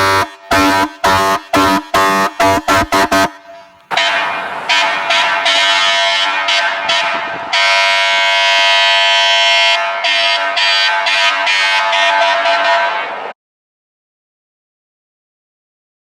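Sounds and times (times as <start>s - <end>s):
fire truck horn blasting: 0.0s - 13.3s.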